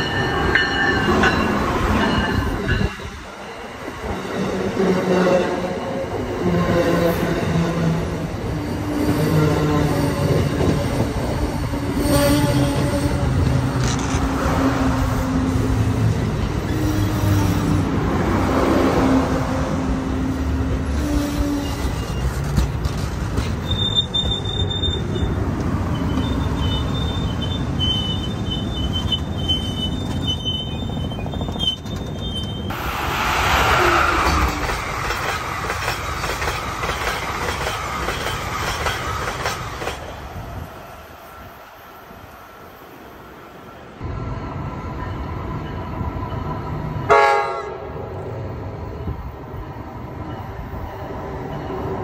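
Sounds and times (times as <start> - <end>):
train wheels rumbling on rail: 0.0 - 43.4.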